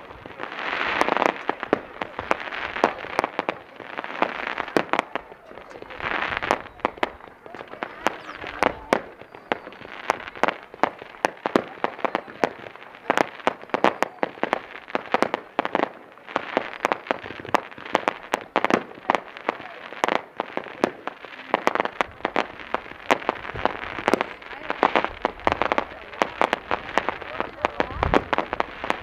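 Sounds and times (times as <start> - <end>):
fireworks crackling and popping: 0.0 - 29.0.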